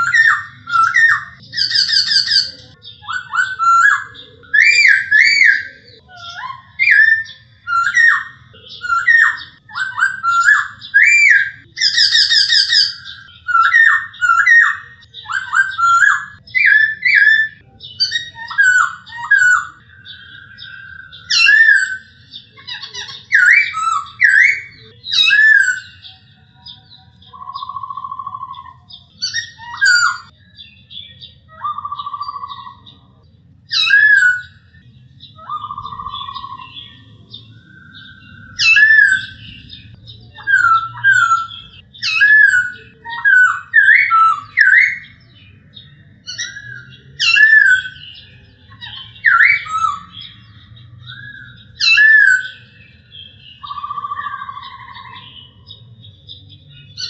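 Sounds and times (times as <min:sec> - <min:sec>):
bird whistled song: 0:00.0 - 0:57.0.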